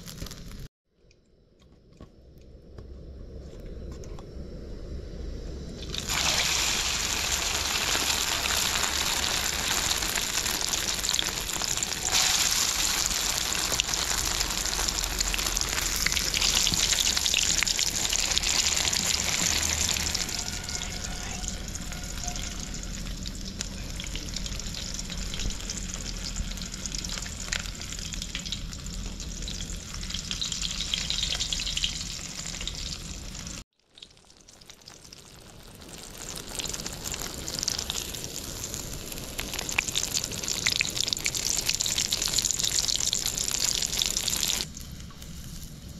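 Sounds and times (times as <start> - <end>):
chicken sizzling in hot oil: 0.0 - 0.7, 5.8 - 45.9.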